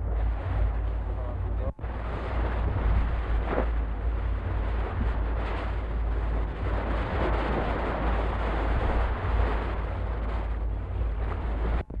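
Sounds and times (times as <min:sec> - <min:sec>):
low rumble: 0:00.0 - 0:12.0
rush of wind and sea: 0:00.0 - 0:12.0
wind buffeting microphone: 0:00.0 - 0:12.0.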